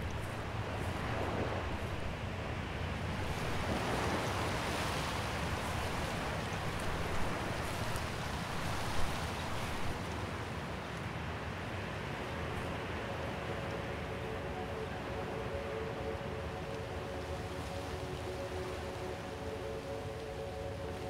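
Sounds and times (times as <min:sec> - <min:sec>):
sea surf: 0:00.0 - 0:21.0
wind: 0:00.0 - 0:21.0.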